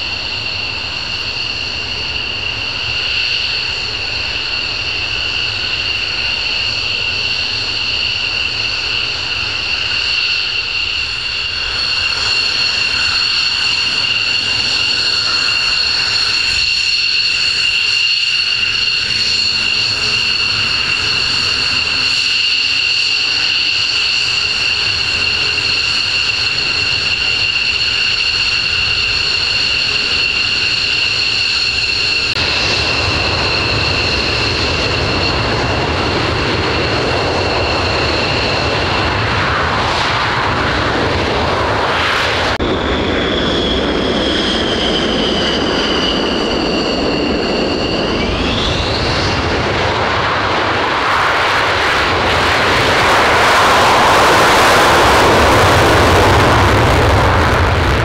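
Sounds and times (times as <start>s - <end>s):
jet engine whine: 0.0s - 58.0s
jet rumble: 0.0s - 58.0s.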